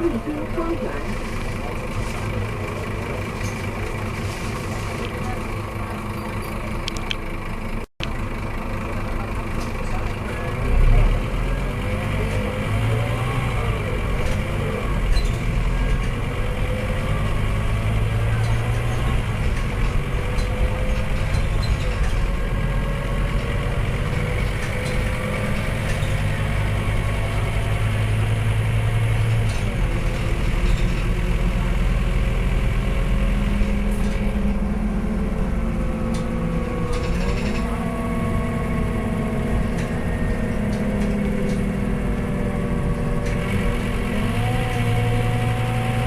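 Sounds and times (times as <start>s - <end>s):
bus engine droning: 0.0s - 46.0s.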